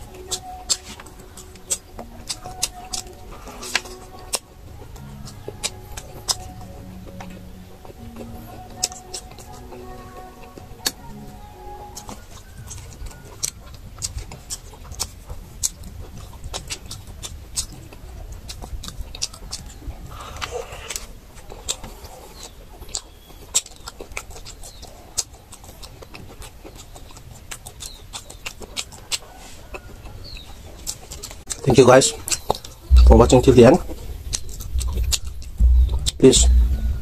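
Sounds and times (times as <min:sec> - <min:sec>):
wet chewing clicks and smacks: 0:00.0 - 0:36.8.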